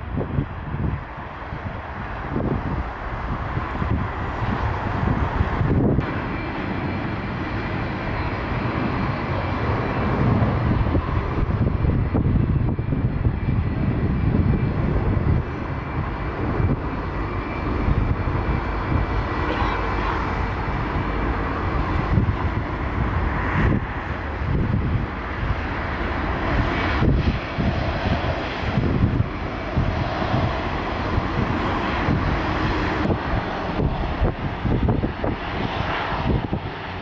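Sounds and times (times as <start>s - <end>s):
jet engines taxiing rumble: 0.0s - 37.0s.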